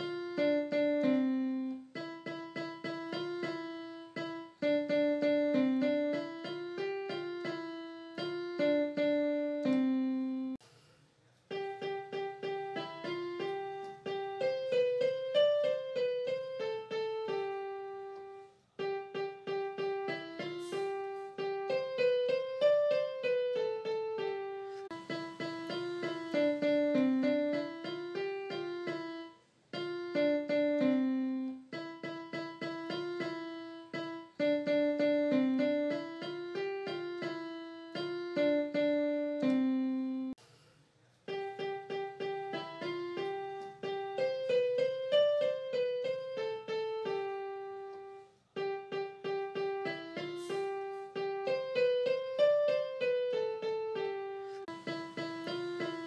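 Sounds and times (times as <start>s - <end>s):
piano keyboard melody: 0.0s - 10.6s, 11.5s - 40.4s, 41.3s - 56.0s.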